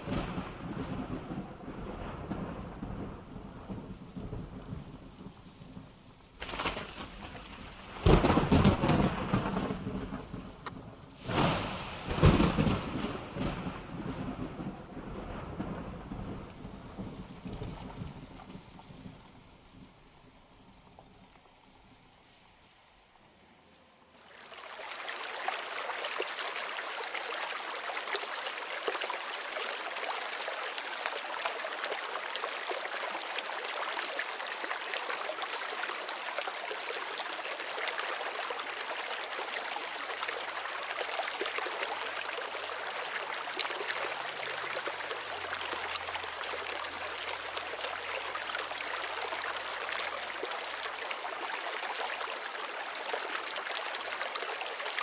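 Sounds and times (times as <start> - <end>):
rainwater rushing down a road: 0.0 - 55.0.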